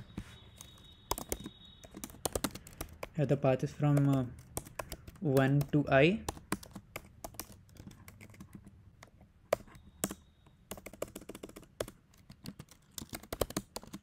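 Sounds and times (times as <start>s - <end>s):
typing on computer keyboard: 0.6s - 14.0s.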